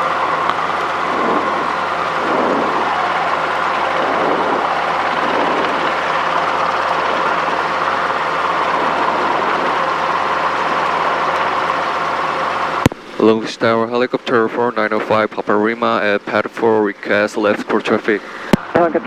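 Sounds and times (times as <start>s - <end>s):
helicopter engine and rotor drone: 0.0s - 18.7s.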